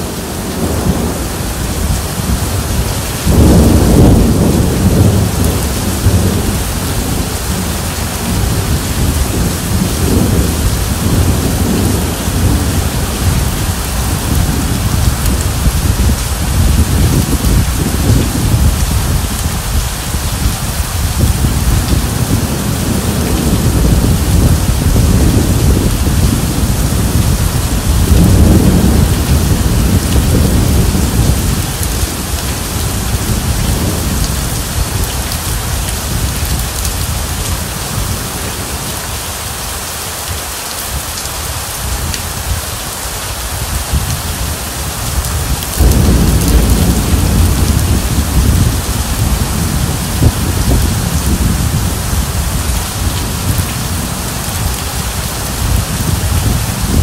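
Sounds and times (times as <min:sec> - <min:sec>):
rolling thunder: 0:00.0 - 0:39.0, 0:43.6 - 0:57.0
heavy rain on wet ground: 0:00.0 - 0:57.0.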